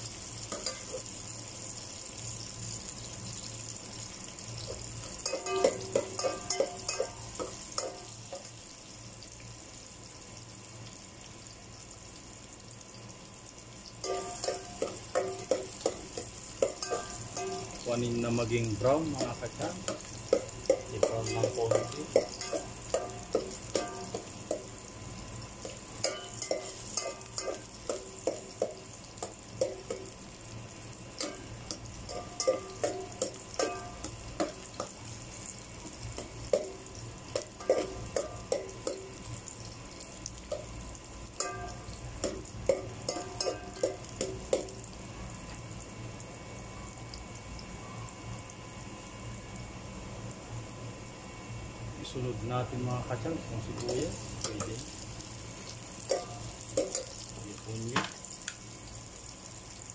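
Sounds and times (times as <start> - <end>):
faint sizzle of frying: 0.0 - 59.9.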